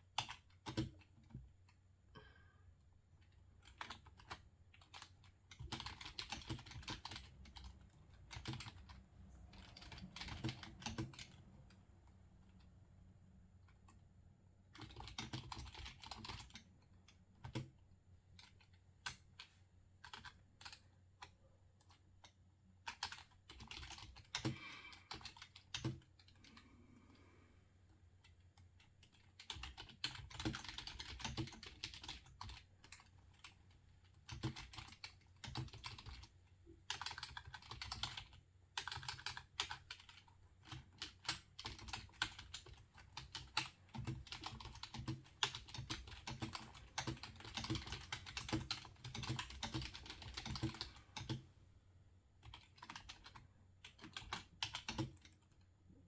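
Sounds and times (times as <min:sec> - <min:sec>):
keyboard typing: 0:00.2 - 0:01.5, 0:03.6 - 0:12.6, 0:14.7 - 0:17.7, 0:18.4 - 0:22.0, 0:22.8 - 0:26.7, 0:28.8 - 0:33.6, 0:34.2 - 0:36.3, 0:36.9 - 0:51.5, 0:52.4 - 0:55.6.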